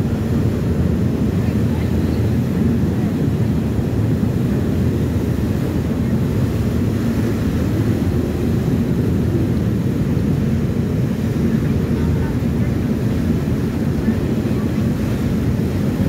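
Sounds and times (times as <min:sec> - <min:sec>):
ship engine rumble: 0:00.0 - 0:16.0
water churning: 0:00.0 - 0:16.0.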